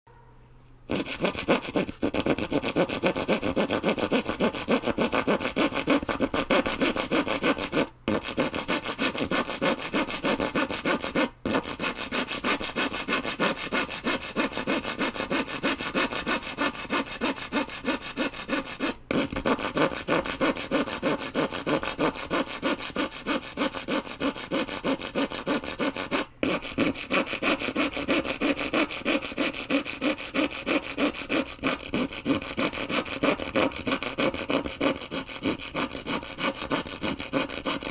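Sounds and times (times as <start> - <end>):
hacksaw cutting wood: 0.9 - 37.9.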